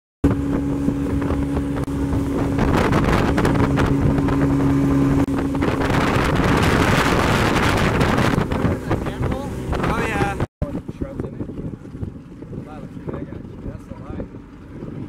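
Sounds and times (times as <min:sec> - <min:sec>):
motorboat engine hum: 0:00.2 - 0:15.0
water rushing past hull: 0:00.2 - 0:15.0
wind on microphone: 0:00.2 - 0:15.0.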